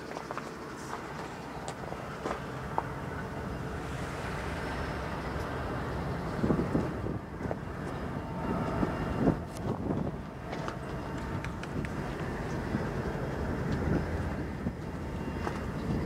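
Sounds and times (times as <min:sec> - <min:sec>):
wind buffeting microphone: 0:01.0 - 0:16.0.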